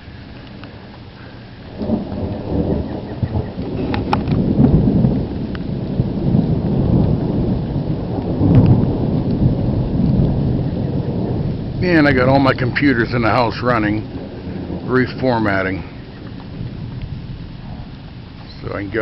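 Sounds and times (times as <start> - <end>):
rain falling: 0.0 - 19.0
thunder rumbling: 0.0 - 19.0.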